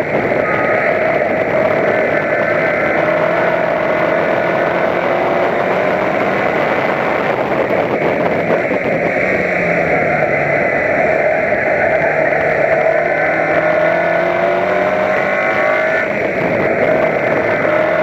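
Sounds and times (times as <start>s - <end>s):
race car engine running hard: 0.0s - 18.0s
road and wind noise: 0.0s - 18.0s.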